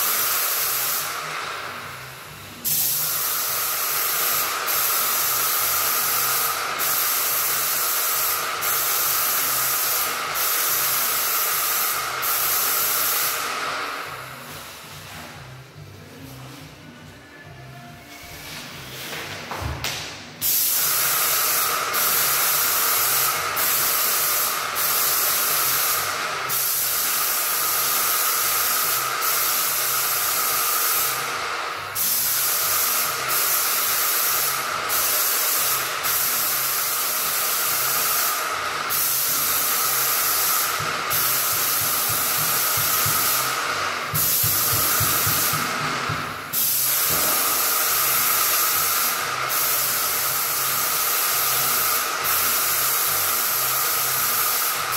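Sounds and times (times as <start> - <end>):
spray gun hissing: 0.0 - 14.6, 20.4 - 54.9.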